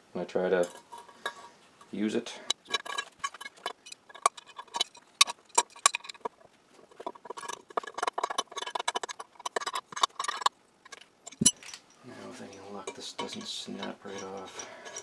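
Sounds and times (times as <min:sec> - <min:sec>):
metal parts clinking: 0:00.6 - 0:15.0.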